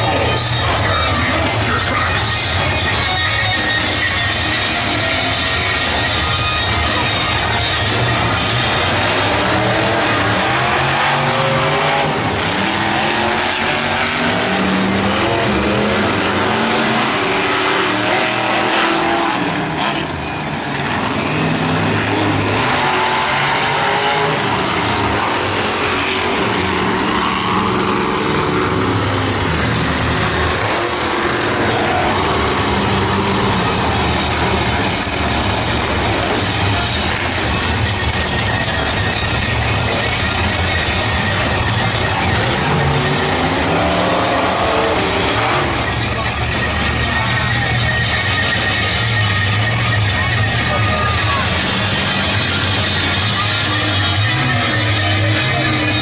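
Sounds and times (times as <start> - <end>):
monster truck engines revving: 0.0 - 56.0.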